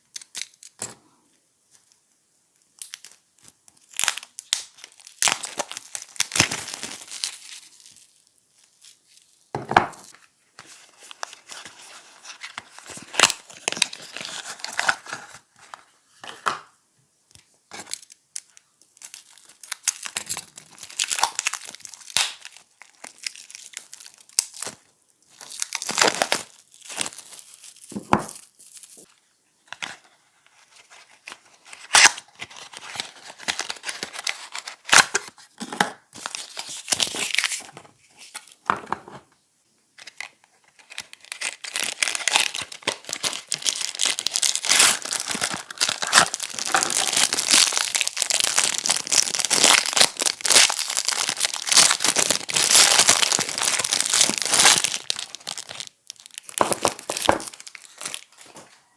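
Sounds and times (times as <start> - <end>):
wrappers tearing and crinkling: 0.0 - 0.9, 2.8 - 9.5, 10.7 - 15.5, 17.7 - 29.1, 30.6 - 35.3, 36.2 - 38.6, 40.0 - 58.7.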